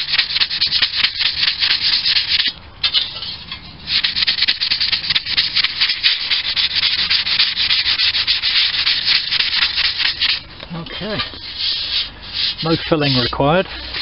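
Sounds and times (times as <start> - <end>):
abrasive pad scrubbing metal: 0.0 - 14.0.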